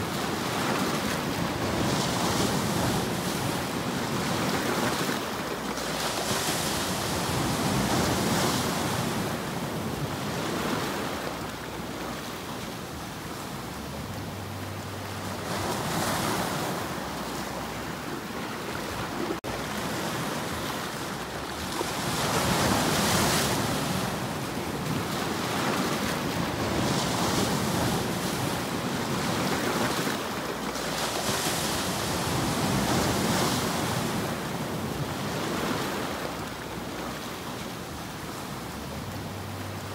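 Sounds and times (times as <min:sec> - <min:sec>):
surf washing over rocks: 0:00.0 - 0:39.9.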